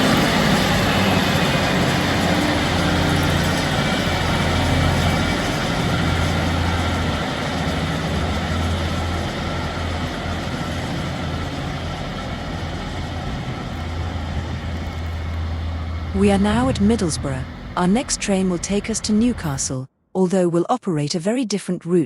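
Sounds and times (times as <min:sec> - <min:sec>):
train engine drone: 0:00.0 - 0:19.8
train rumble: 0:00.0 - 0:19.8.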